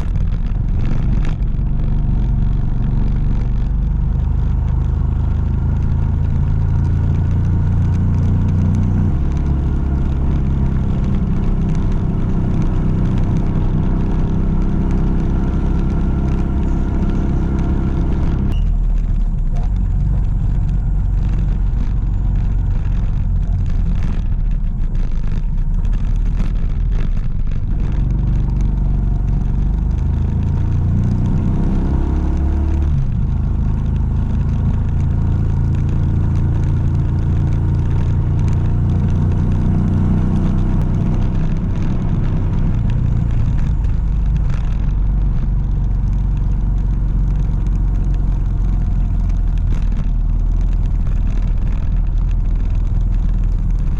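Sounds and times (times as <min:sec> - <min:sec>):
constant low rumble: 0:00.0 - 0:53.9
vehicle engine running: 0:00.0 - 0:53.9.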